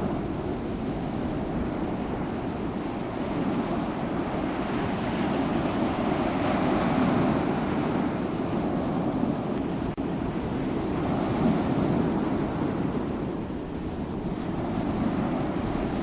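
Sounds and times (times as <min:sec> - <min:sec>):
sea waves washing ashore: 0:00.0 - 0:16.0.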